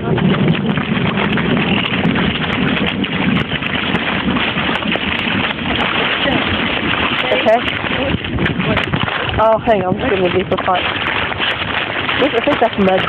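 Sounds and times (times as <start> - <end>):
feet splashing through puddle: 0.0 - 13.0
rain: 0.0 - 13.0
wind on microphone: 0.0 - 13.0.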